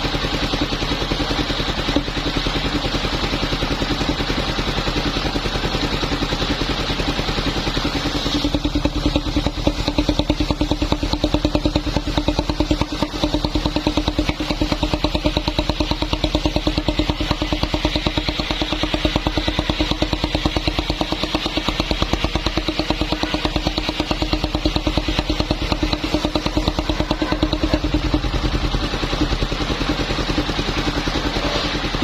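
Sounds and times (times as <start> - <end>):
sawing machine engine running: 0.0 - 32.0.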